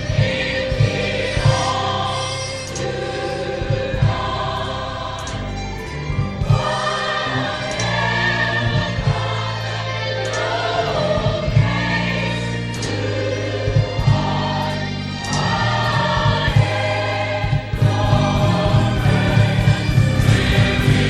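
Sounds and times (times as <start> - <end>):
bass and drums: 0.0 - 21.0
gospel choir singing: 0.0 - 21.0.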